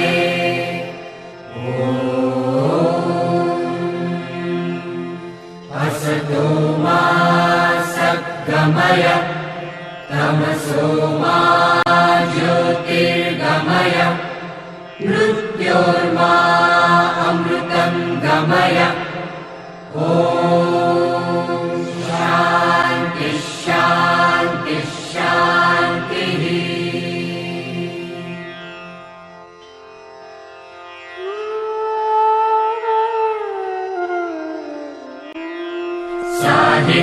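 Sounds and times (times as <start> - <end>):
devotional mantra chanting: 0.0 - 29.1, 36.0 - 37.0.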